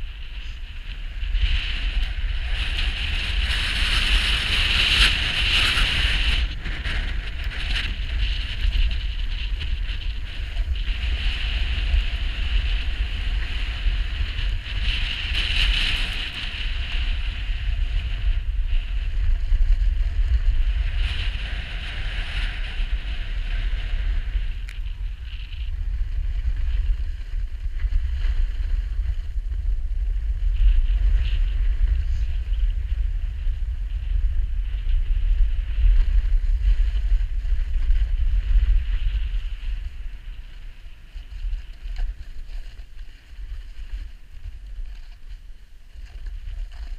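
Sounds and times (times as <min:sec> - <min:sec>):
skis scraping on snow: 0:00.0 - 0:46.9
wind buffeting microphone: 0:00.0 - 0:46.9.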